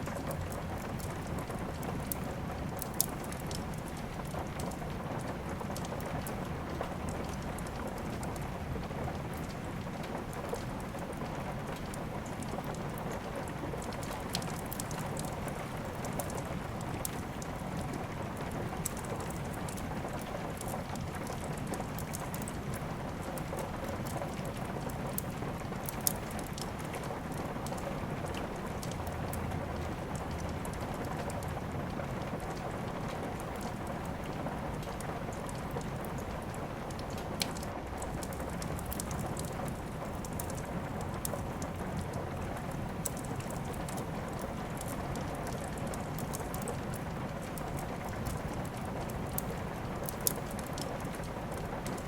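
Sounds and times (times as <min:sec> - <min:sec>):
steady rain: 0:00.0 - 0:52.0
wood fire crackling: 0:00.0 - 0:52.0.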